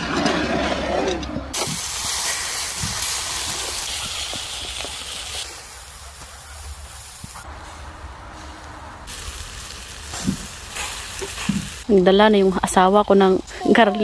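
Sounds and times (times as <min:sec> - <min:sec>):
sausages sizzling on a grill: 0:01.6 - 0:07.7, 0:08.3 - 0:14.0.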